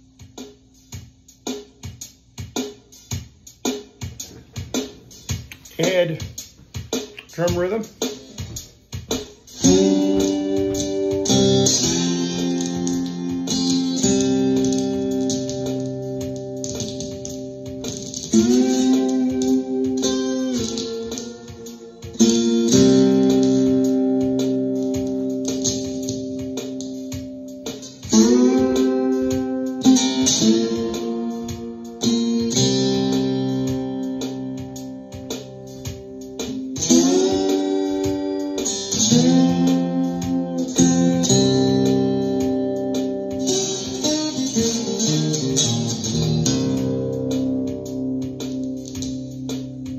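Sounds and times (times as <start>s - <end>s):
drum rhythm: 0.0s - 49.9s
slide guitar chords: 4.2s - 49.9s.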